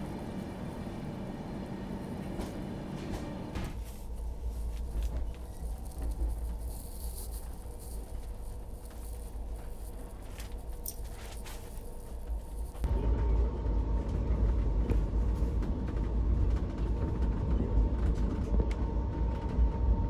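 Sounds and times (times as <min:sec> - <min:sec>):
train coach rumble: 0:00.0 - 0:20.0.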